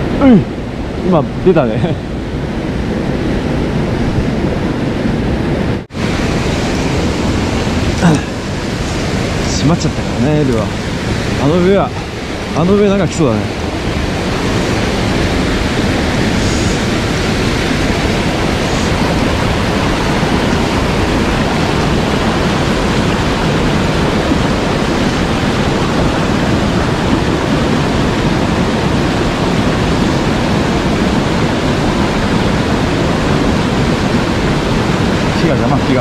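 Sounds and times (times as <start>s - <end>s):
mountain stream rushing: 0.0s - 36.0s.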